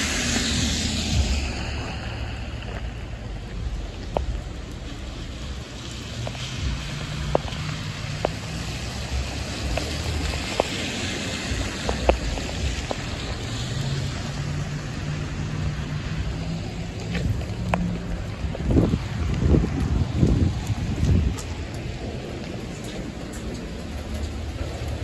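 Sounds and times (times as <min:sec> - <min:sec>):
low engine hum: 0:00.0 - 0:25.0
raindrops ticking near microphone: 0:00.0 - 0:25.0
tyres splashing through water: 0:00.0 - 0:25.0.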